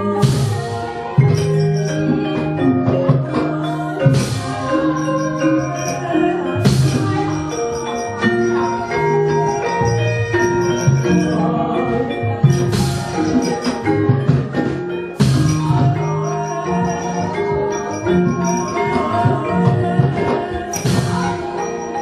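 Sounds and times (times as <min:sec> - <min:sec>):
gamelan playing: 0:00.0 - 0:22.0.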